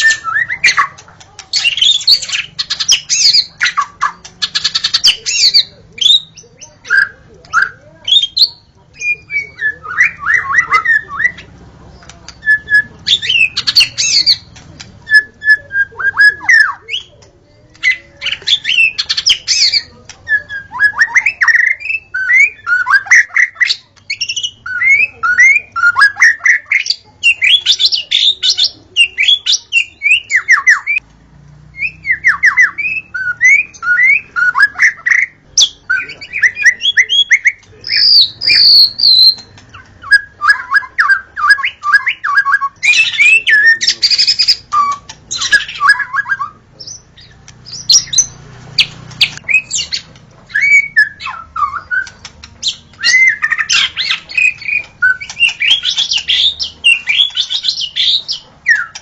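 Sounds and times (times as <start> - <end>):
bird singing whistles and chatter: 0.0 - 31.0, 31.7 - 59.0.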